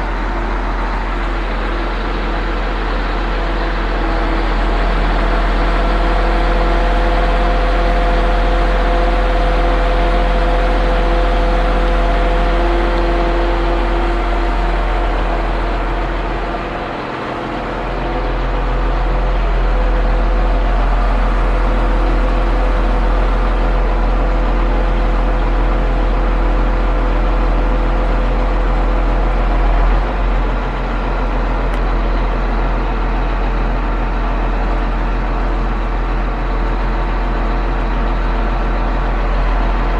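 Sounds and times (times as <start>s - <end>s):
pump truck engine drone: 0.0s - 39.9s.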